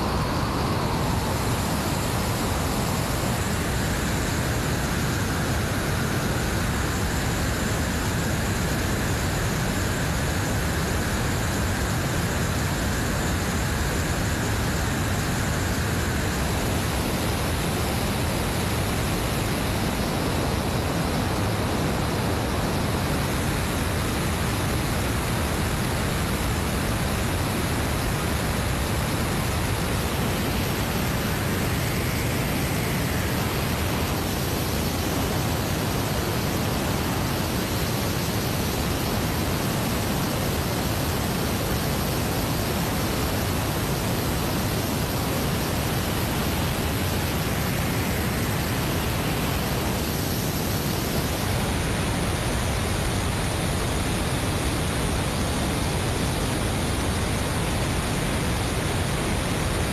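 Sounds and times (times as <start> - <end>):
jet engine noise: 0.0 - 59.9.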